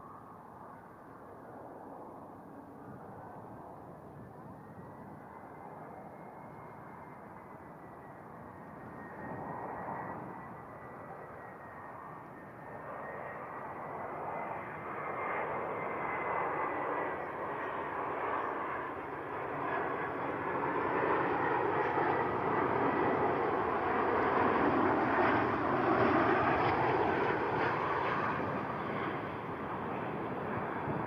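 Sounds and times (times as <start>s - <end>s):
faint high whine: 0.0s - 31.0s
jet engine roar: 0.0s - 31.0s.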